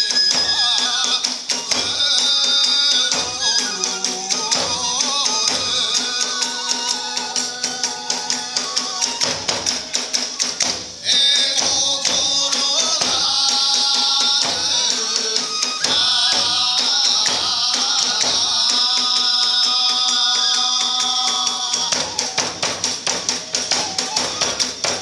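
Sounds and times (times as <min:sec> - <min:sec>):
fast drum strokes: 0:00.0 - 0:25.0
flute: 0:00.0 - 0:25.0
hand cymbals: 0:00.0 - 0:25.0.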